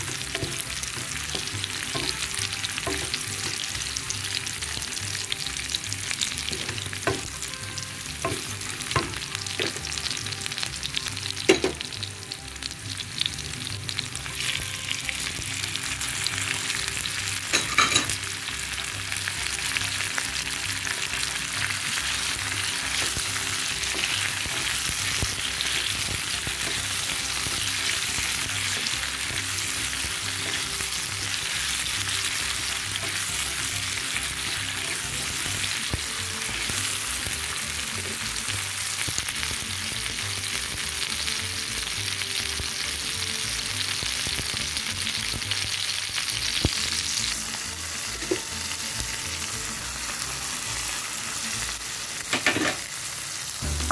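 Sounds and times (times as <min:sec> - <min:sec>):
onions sizzling in hot oil: 0:00.0 - 0:53.9.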